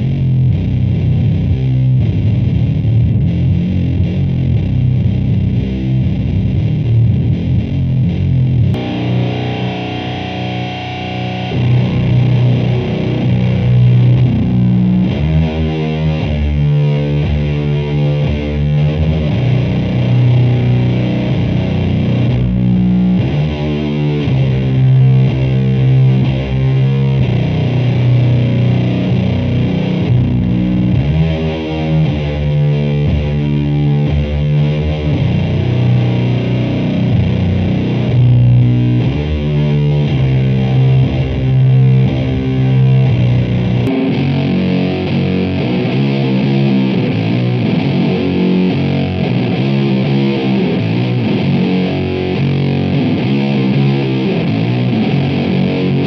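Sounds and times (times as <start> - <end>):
distorted fuzz electric guitar riffs: 0.0 - 56.0.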